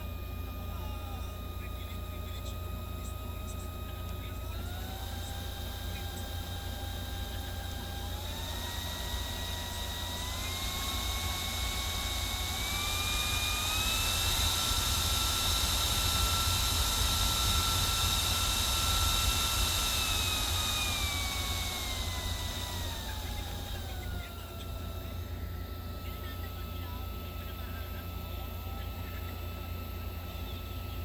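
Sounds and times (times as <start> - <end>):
cooling fan whirring: 0.0 - 31.0.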